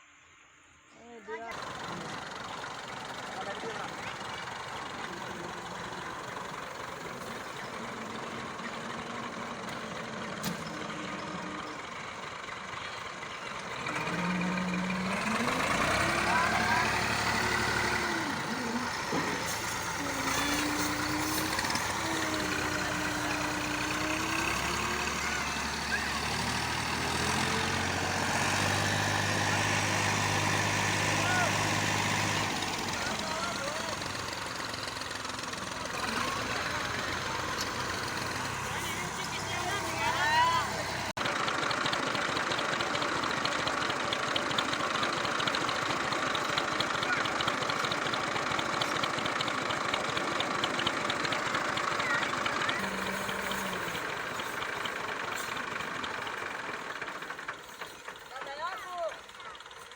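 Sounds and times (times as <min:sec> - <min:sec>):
tractor diesel engine running: 0:01.4 - 0:59.9.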